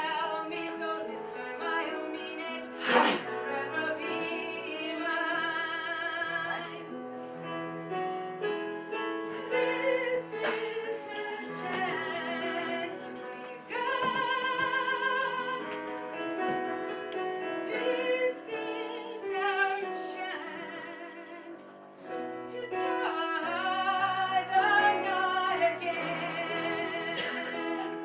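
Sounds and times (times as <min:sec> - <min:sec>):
woman singing with vibrato: 0:00.0 - 0:07.0, 0:09.4 - 0:16.0, 0:17.6 - 0:21.8, 0:22.4 - 0:28.0
instrumental accompaniment: 0:00.0 - 0:28.0.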